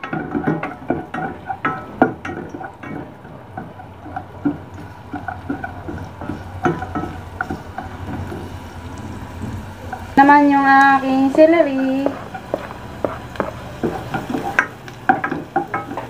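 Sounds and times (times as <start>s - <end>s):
spoon tapping and scraping pan: 0.0s - 16.0s.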